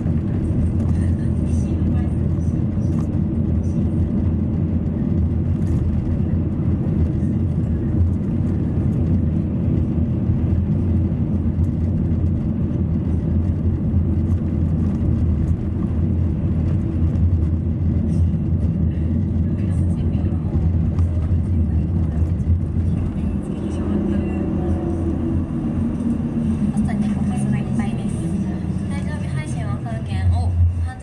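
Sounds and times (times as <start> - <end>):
car engine rumble: 0.0 - 31.0
tyre road noise: 0.0 - 31.0.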